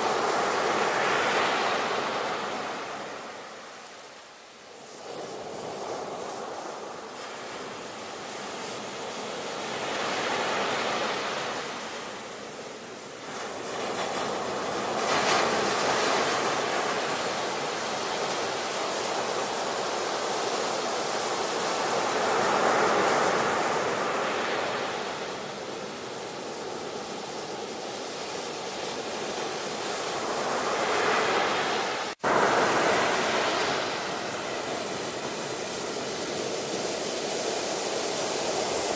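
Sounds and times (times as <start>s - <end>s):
ocean waves breaking: 0.0s - 4.1s, 4.7s - 38.9s.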